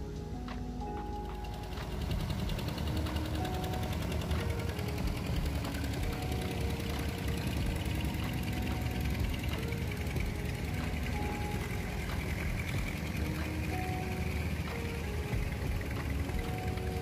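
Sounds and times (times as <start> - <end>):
faint background music: 0.0 - 17.0
boat engine knocking: 1.3 - 17.0.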